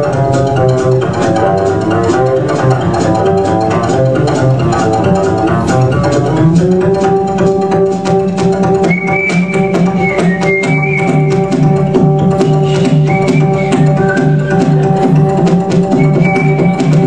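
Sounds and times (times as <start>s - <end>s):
swing music with drums and bass: 0.0s - 17.0s
whistled melody: 0.0s - 17.0s.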